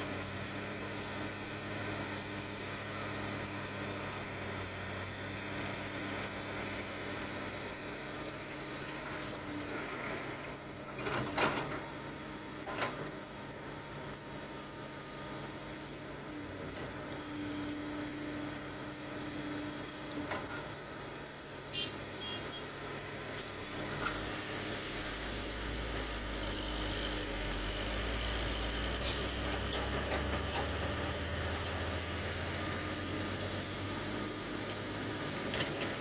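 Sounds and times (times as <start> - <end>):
diesel engines running: 0.0 - 36.0.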